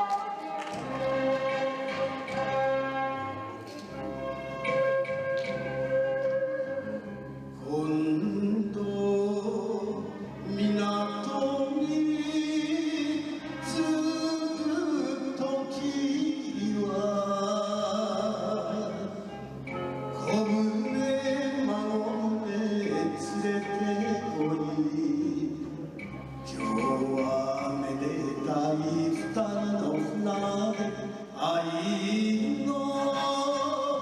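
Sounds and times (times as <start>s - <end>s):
instrumental backing: 0.0s - 34.0s
person singing a ballad: 5.7s - 34.0s.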